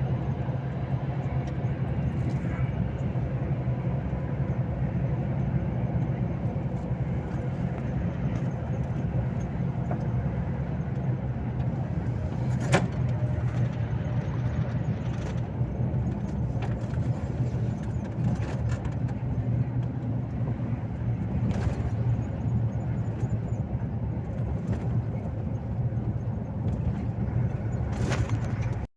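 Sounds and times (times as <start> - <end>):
truck engine and road drone: 0.0 - 28.9.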